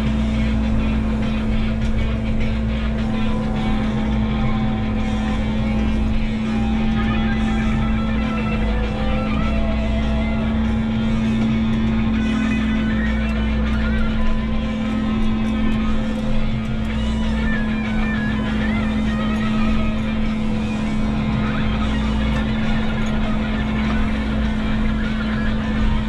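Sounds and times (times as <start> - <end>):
background music: 0.0 - 26.0
diesel engine humming: 0.0 - 26.0.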